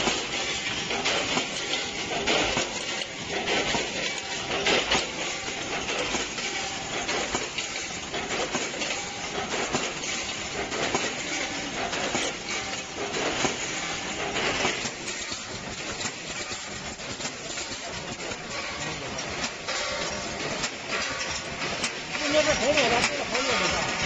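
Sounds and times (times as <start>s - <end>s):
machine clattering clicks: 0.0s - 24.0s
machine hiss: 0.0s - 24.0s.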